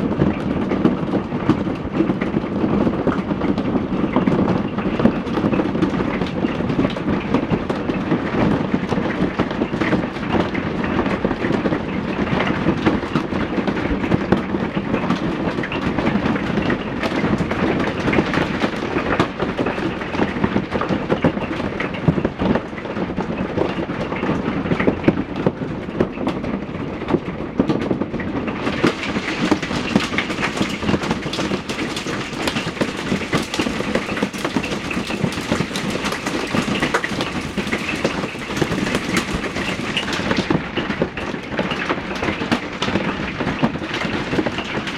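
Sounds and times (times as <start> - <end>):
hailstones hitting hard surfaces: 0.0 - 44.9.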